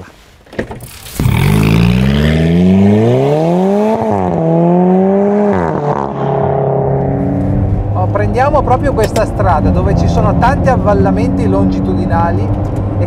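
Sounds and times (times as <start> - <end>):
car engine accelerating hard: 0.8 - 13.0.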